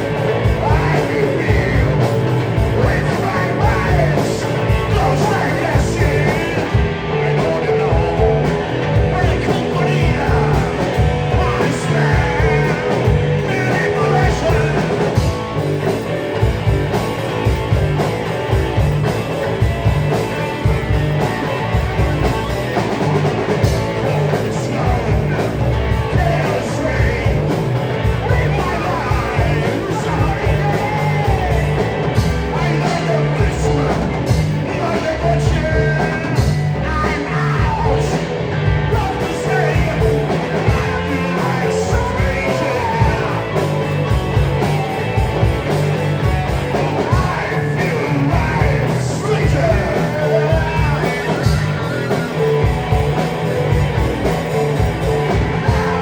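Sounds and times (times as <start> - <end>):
person singing: 0.0 - 15.5, 20.0 - 56.0
bass guitar: 0.0 - 56.0
drums: 0.0 - 56.0
electric guitar: 0.0 - 56.0.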